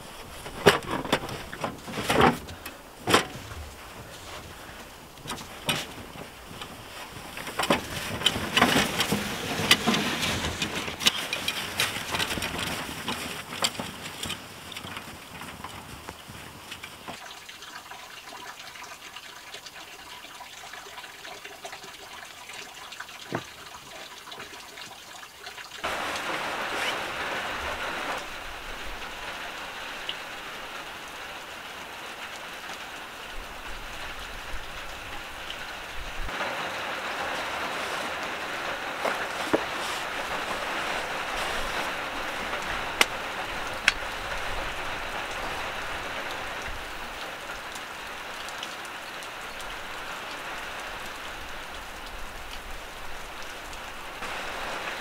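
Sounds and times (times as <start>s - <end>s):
falling water pattering: 0.0s - 55.0s.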